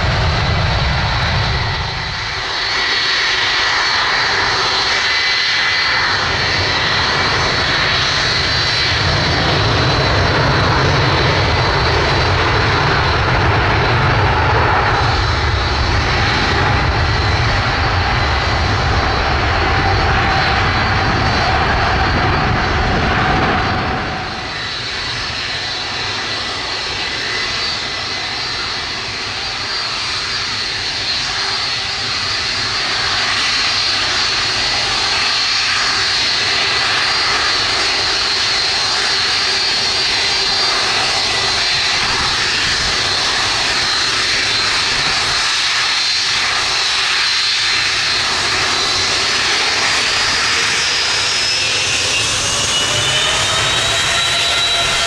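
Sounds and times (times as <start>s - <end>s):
jet engines running loud: 0.0s - 55.0s
taxiing jet whine: 0.0s - 55.0s.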